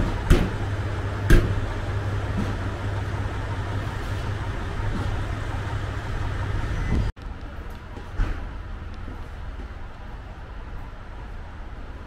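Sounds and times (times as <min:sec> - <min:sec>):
diesel railcar idling hum: 0:00.0 - 0:12.0.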